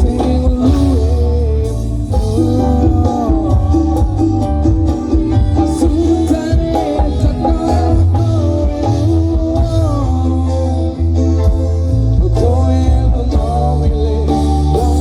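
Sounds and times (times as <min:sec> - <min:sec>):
guitar: 0:00.0 - 0:15.0
heavy bass line: 0:00.0 - 0:15.0
person singing melody: 0:00.0 - 0:15.0.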